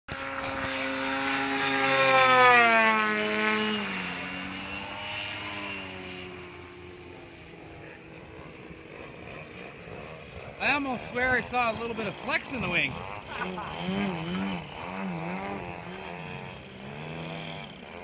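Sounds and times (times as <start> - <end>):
model airplane engine flying by: 0.1 - 18.0.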